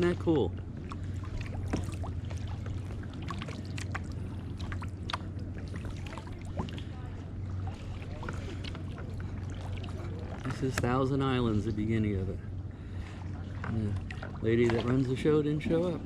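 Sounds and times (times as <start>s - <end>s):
paddle splashes and drips: 0.0s - 11.0s, 12.8s - 15.8s
steady low hum: 0.0s - 16.0s.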